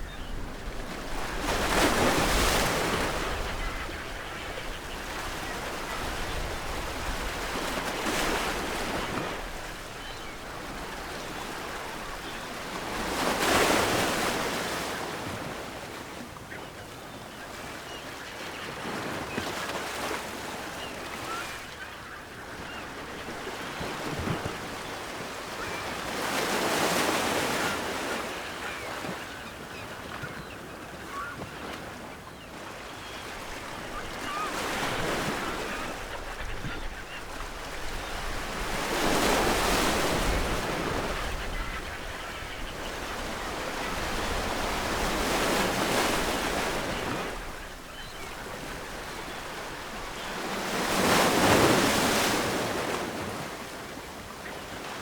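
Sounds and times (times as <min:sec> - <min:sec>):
distant seagull calls: 0:00.0 - 0:55.0.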